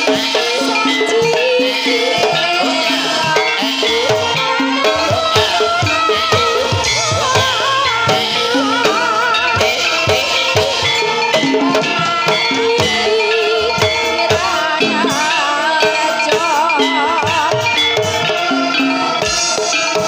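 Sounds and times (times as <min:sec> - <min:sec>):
hand drums steady beat: 0:00.0 - 0:20.0
melody with heavy vibrato: 0:00.0 - 0:20.0
metallic percussion strokes: 0:00.0 - 0:20.0.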